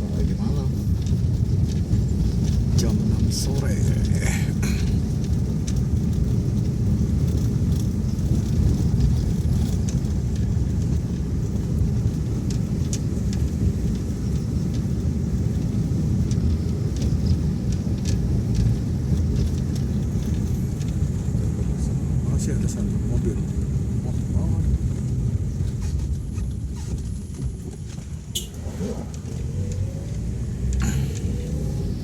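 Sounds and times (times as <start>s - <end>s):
vehicle rumbling along road: 0.0s - 32.0s.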